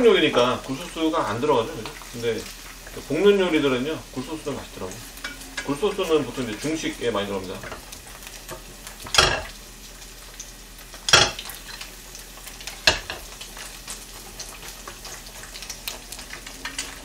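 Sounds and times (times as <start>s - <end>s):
egg sizzling in oil: 0.0s - 17.0s.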